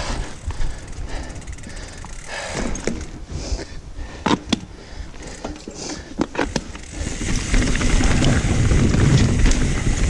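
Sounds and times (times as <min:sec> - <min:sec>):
mountain bike rolling on dirt: 0:00.0 - 0:10.0.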